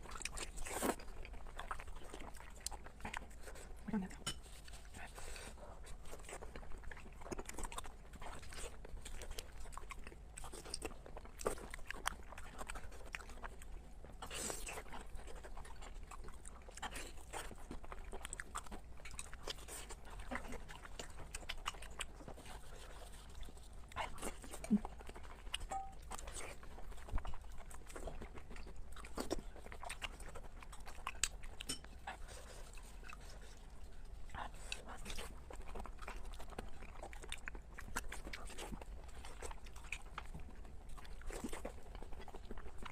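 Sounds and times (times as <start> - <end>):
person chewing and biting: 5.8 - 42.9.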